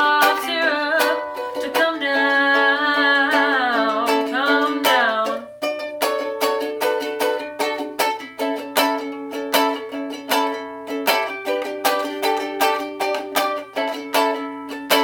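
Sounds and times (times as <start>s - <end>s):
small string instrument strummed: 0.0s - 15.0s.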